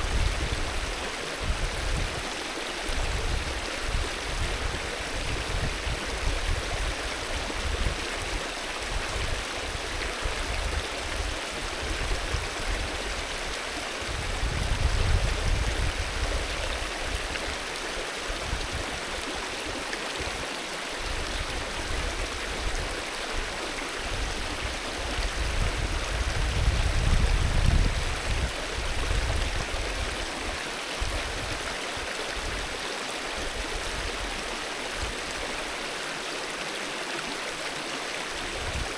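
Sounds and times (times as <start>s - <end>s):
river water rushing and gurgling: 0.0s - 38.9s.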